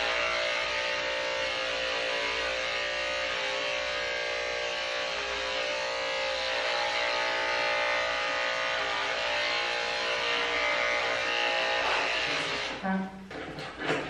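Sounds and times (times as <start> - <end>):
electric dog clipper humming: 0.0 - 12.8.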